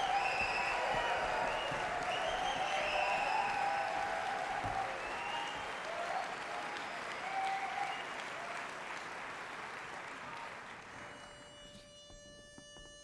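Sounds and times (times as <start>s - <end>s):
crowd calling out: 0.0s - 11.0s
audience applauding: 0.0s - 11.7s.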